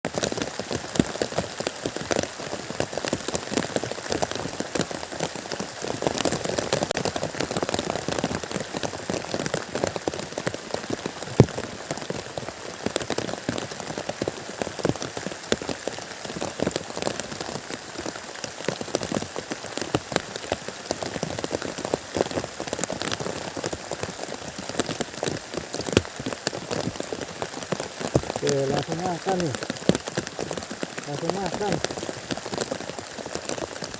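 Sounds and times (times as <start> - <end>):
rain drops striking: 0.0 - 33.9.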